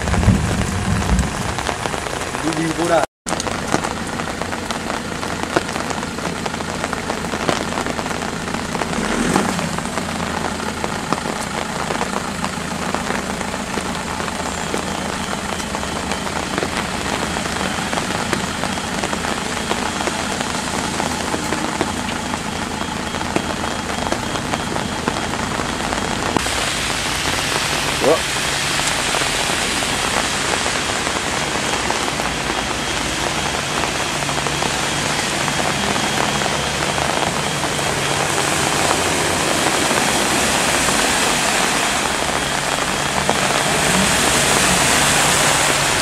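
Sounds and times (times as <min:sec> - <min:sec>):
rain falling on water: 0:00.0 - 0:46.0.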